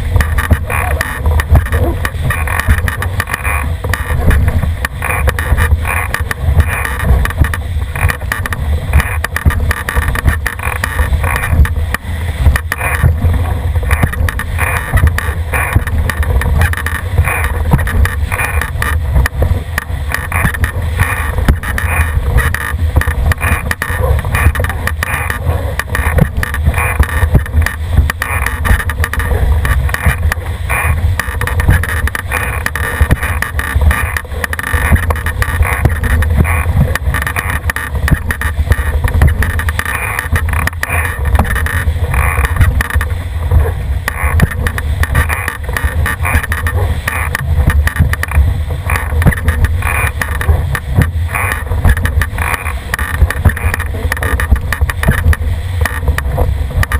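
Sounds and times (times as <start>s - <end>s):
water splashing along hull: 0.0s - 56.9s
wind buffeting microphone: 0.0s - 56.9s.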